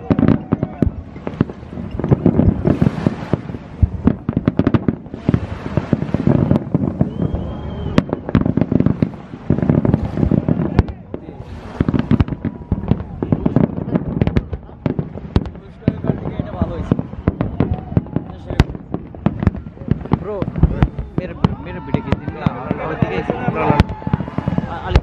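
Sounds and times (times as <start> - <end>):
fireworks bangs and pops: 0.0 - 25.0
fireworks crackling: 0.0 - 25.0.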